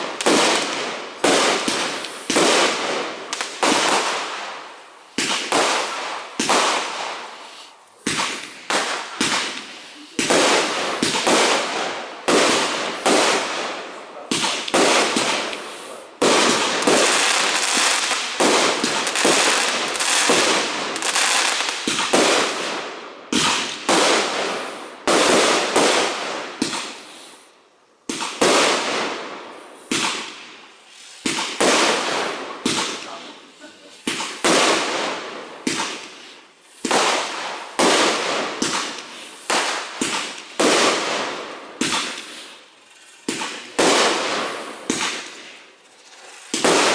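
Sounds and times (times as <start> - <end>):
firework shells bursting: 0.0 - 27.2, 29.8 - 46.9
crackling firework tails: 0.0 - 46.9.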